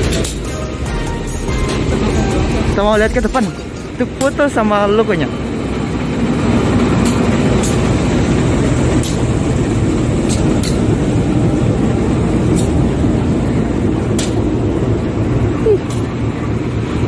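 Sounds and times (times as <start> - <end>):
locomotive engine rumbling: 0.0 - 17.0.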